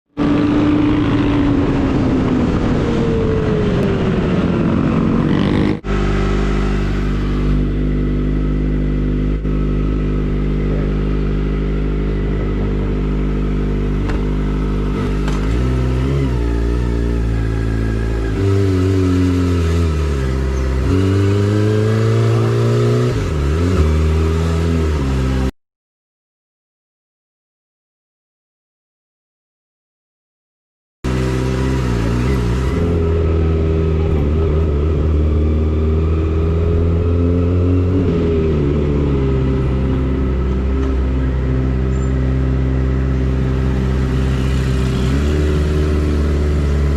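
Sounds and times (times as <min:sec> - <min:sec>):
motorcycle engine revving: 0:00.1 - 0:25.5, 0:31.0 - 0:46.9.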